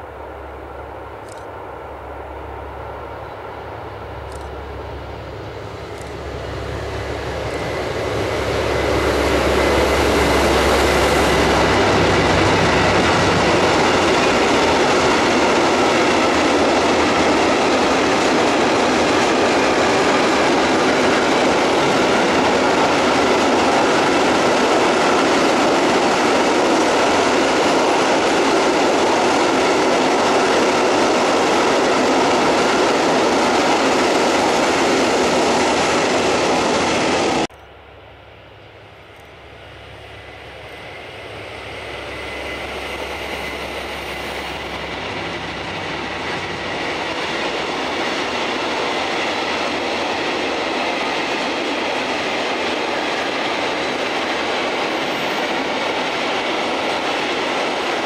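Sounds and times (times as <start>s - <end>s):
locomotive engine hum: 0.0s - 58.0s
train wheels on rails: 0.0s - 58.0s.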